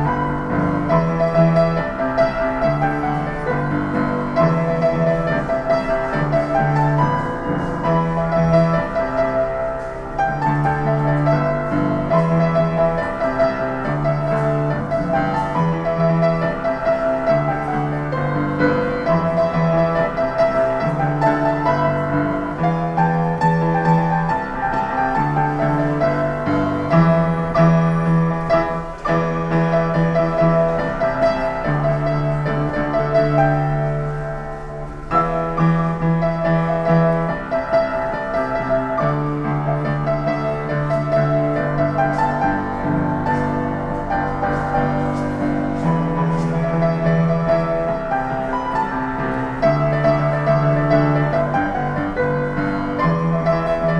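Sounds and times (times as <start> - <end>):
solo piano pop tune: 0.0 - 53.9.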